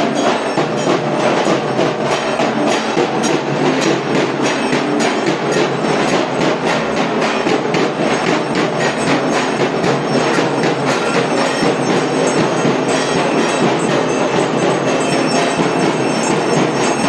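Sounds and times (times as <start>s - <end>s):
barrel drums beaten with sticks: 0.0s - 17.0s.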